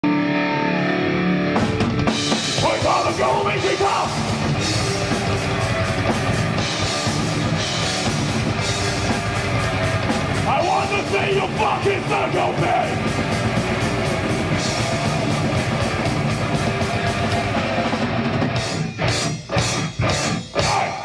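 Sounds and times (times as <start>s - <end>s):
drums: 0.0s - 21.0s
electric guitars: 0.0s - 21.0s.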